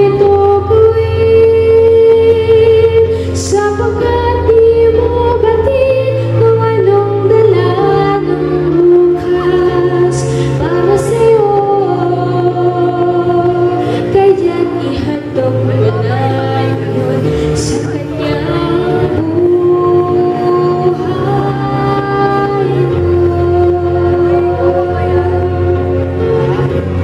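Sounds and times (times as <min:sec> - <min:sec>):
instrumental accompaniment: 0:00.0 - 0:27.0
sustained bass notes: 0:00.0 - 0:27.0
woman singing into microphone: 0:00.0 - 0:27.0.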